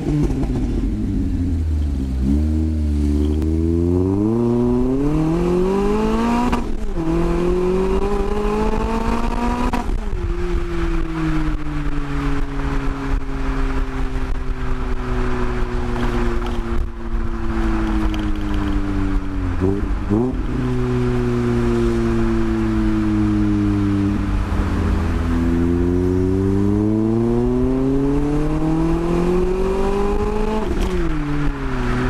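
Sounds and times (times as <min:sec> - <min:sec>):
car engine revving through exhaust: 0:00.0 - 0:12.1, 0:14.7 - 0:32.0.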